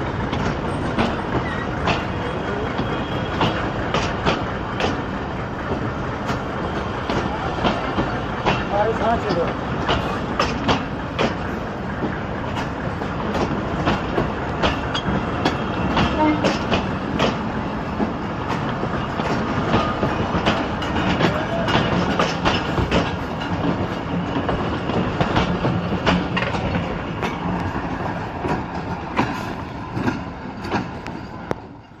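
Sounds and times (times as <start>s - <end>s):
train rolling noise: 0.0s - 32.0s
train wheels clacking over rail joints: 0.0s - 32.0s.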